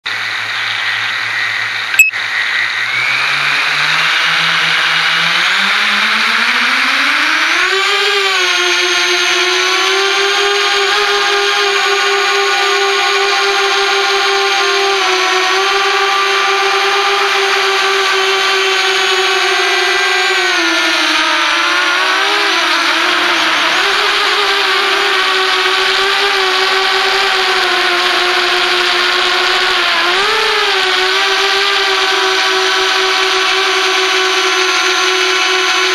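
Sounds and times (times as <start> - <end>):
quadcopter motors whining: 0.0 - 35.9.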